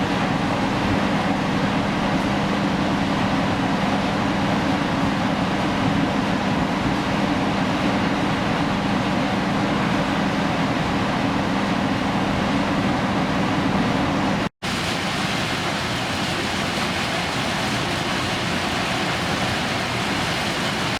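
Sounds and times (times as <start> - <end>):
rushing water wash: 0.0 - 13.5, 14.6 - 20.9
ship engine hum: 0.0 - 20.9.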